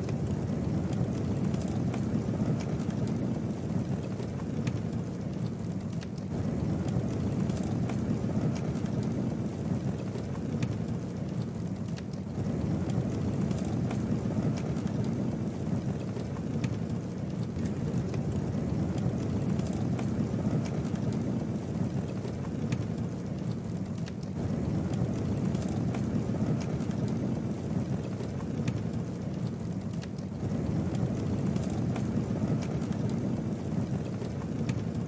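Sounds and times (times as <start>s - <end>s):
campfire flames rumbling: 0.0s - 35.0s
wood crackling and popping: 0.0s - 35.0s.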